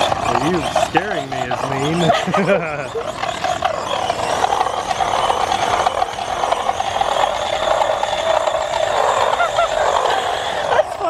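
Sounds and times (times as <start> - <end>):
electric motor running: 0.0 - 11.0.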